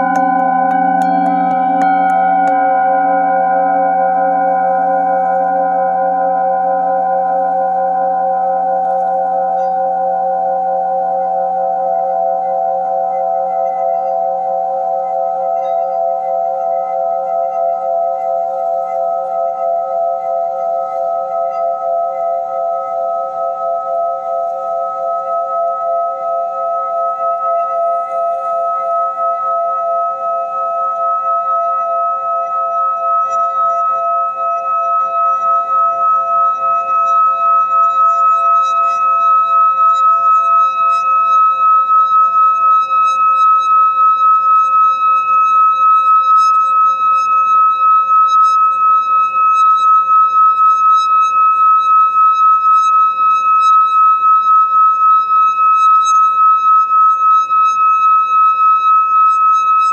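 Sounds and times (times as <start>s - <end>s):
singing bowl ringing: 0.0s - 59.9s.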